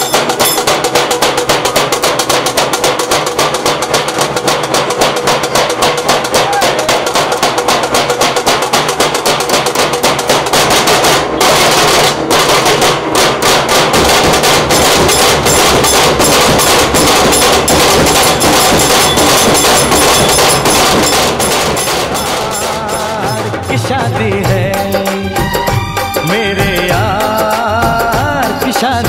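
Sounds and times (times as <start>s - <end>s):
music with fast drumming: 0.0s - 29.0s.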